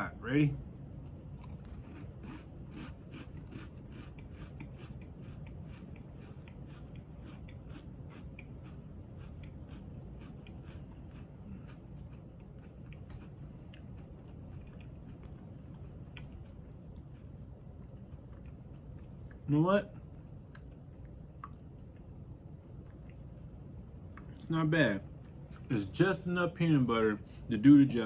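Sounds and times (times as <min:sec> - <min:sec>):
person chewing crunchy cookie: 0:00.6 - 0:24.5.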